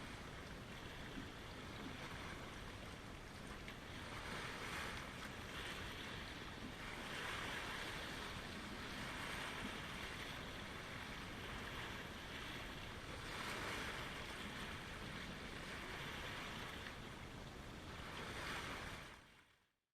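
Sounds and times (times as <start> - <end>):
lake waves washing on shore: 0.0 - 19.5.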